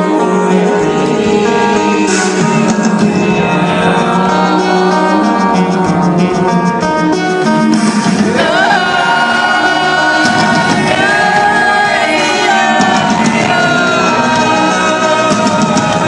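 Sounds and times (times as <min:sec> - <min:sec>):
person singing long held notes: 0:00.0 - 0:06.4, 0:08.1 - 0:16.0
rock band playing live: 0:00.0 - 0:16.0.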